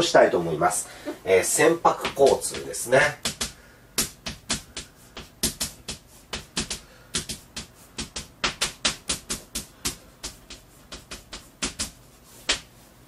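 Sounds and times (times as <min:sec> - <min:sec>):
chalk tapping on blackboard: 0:01.9 - 0:12.8.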